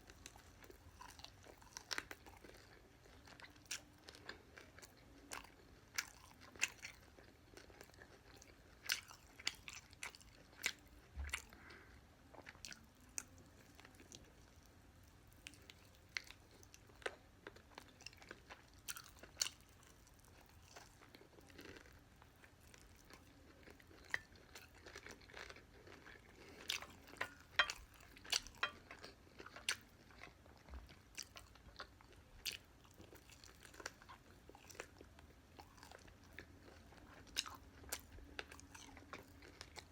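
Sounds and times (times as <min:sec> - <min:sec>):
crunching fried chicken: 0:00.1 - 0:39.9.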